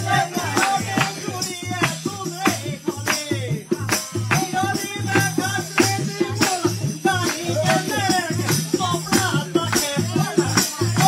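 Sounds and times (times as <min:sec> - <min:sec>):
tambourine jingles: 0:00.0 - 0:11.0.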